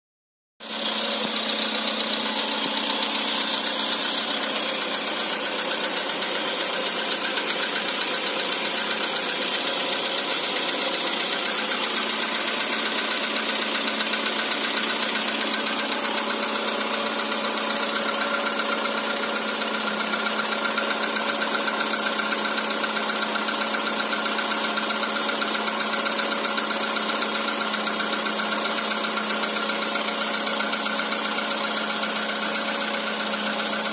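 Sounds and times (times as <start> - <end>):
car engine idling with knock: 0.6 - 33.9.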